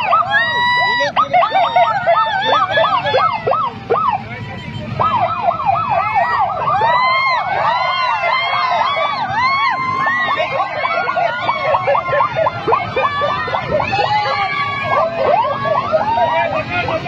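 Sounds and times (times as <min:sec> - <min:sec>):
crowd rumble: 0:00.0 - 0:17.0
motorcycle engines: 0:00.0 - 0:17.0
police sirens yelping: 0:00.0 - 0:17.0.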